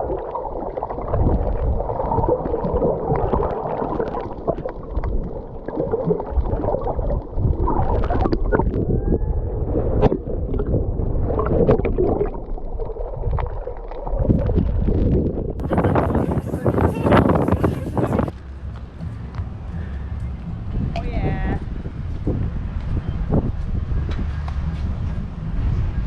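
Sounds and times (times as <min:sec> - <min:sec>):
muffled water gurgling: 0:00.0 - 0:26.0.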